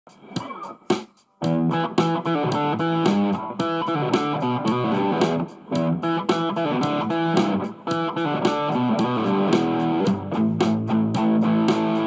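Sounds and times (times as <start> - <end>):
electric guitar picked runs: 1.5 - 12.0.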